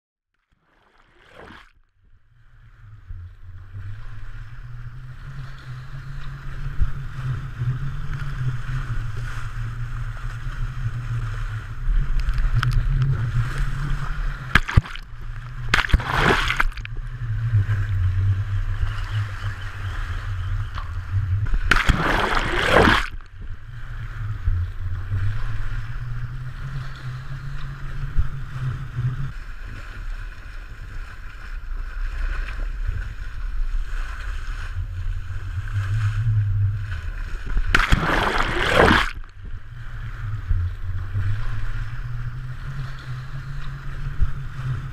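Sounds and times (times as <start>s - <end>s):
sea water rushing and sloshing: 0.4s - 44.9s
water splashes: 0.4s - 44.9s.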